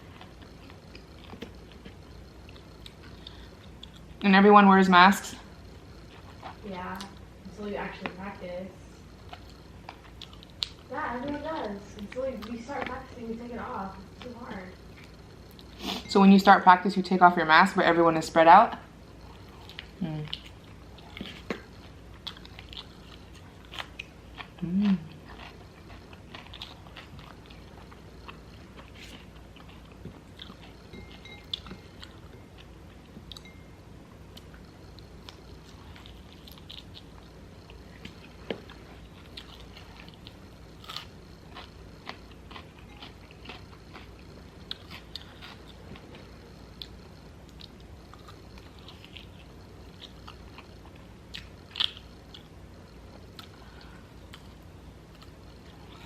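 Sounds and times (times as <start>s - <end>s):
person chewing food: 0.0s - 4.2s, 5.6s - 7.2s, 9.1s - 12.9s, 19.2s - 56.0s.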